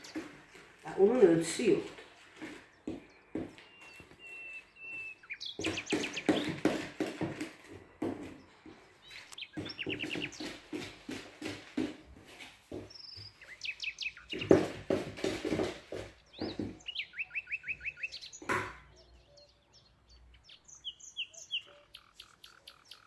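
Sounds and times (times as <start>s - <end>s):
small bird singing: 0.0s - 11.6s, 12.7s - 23.0s.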